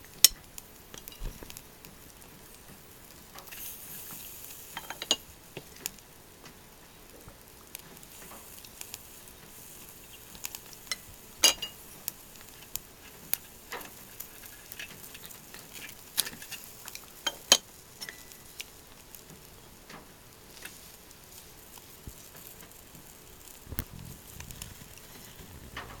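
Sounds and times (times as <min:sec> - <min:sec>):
rice ball sizzling on a grill: 0:00.0 - 0:26.0.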